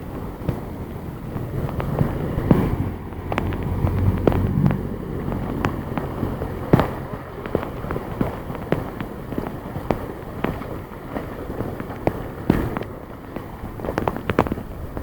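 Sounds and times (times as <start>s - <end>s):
rain: 0.0s - 15.0s
vehicle engine running low: 0.0s - 15.0s
water washing: 0.0s - 15.0s
sharp taps: 1.3s - 15.0s.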